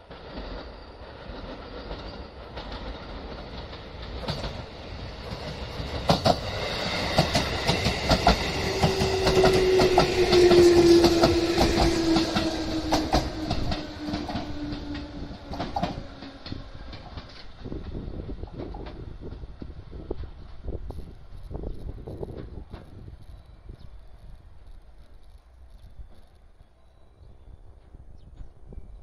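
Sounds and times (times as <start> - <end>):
train wheels clicking over rail joints: 0.0 - 23.4
electric train passing: 0.0 - 29.0.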